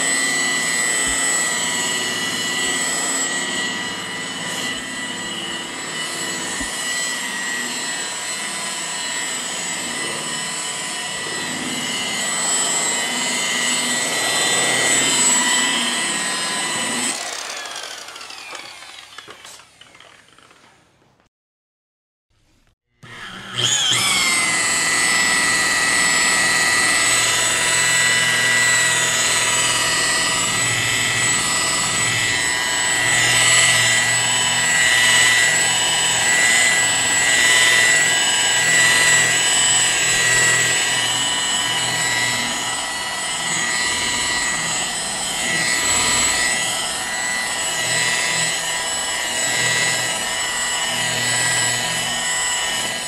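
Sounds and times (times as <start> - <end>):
power tool motor whining: 0.0 - 20.7, 23.0 - 53.0.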